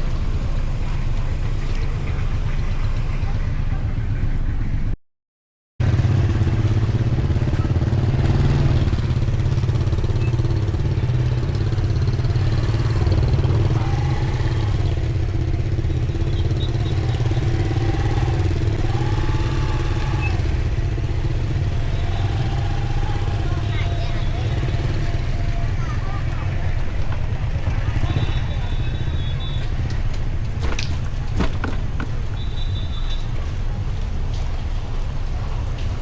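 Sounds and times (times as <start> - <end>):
low rumble of vehicle engines: 0.0 - 5.0, 5.8 - 36.0.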